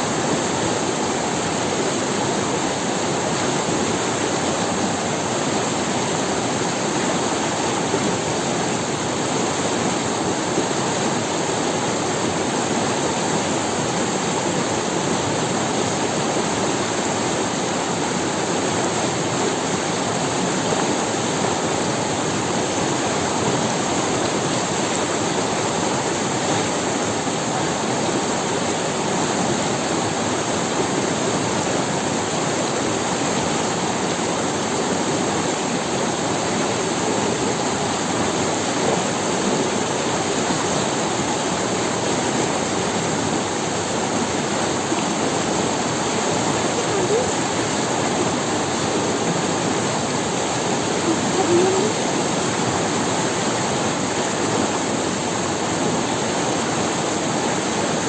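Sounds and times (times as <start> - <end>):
river water rushing over stones: 0.0 - 58.0.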